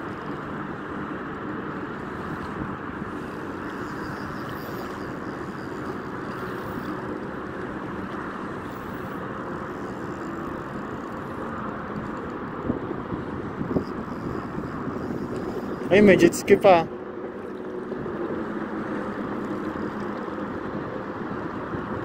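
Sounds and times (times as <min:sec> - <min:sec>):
jet ski engine drone: 0:00.0 - 0:22.0.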